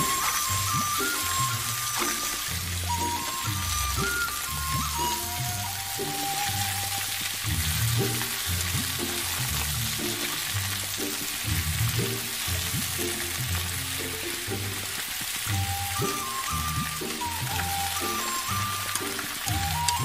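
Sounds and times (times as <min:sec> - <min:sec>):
background music with bass line: 0:00.0 - 0:20.0
food sizzling in hot oil: 0:00.0 - 0:20.0.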